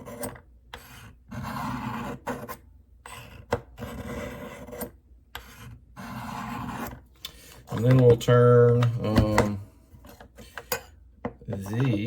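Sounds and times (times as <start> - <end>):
knife scraping on ceramic rods: 0.0 - 8.2, 10.0 - 12.0.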